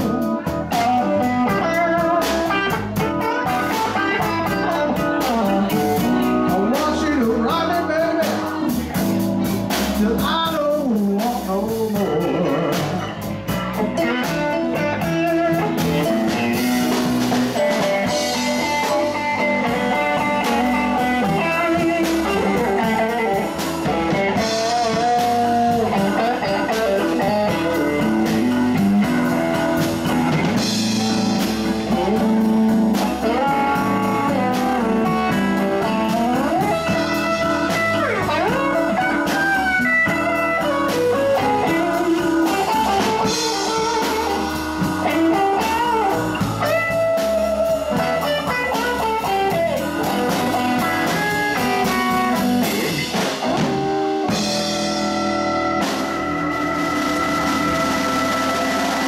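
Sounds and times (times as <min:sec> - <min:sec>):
drum kit: 0:00.0 - 0:59.0
electric bass: 0:00.0 - 0:59.0
electric guitar lead: 0:00.0 - 0:59.0
keyboard: 0:00.0 - 0:59.0.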